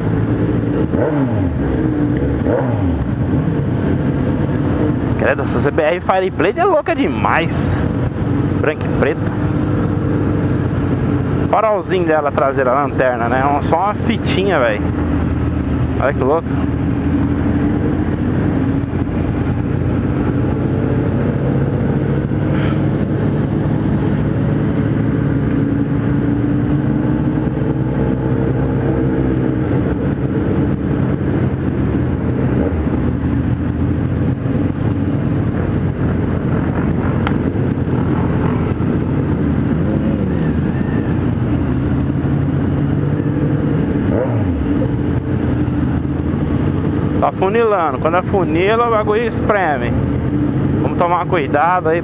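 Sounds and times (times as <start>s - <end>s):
motorcycle engine revving: 0.0s - 52.0s
motorcycle engine running: 0.0s - 52.0s
other motorcycle engines: 0.0s - 52.0s.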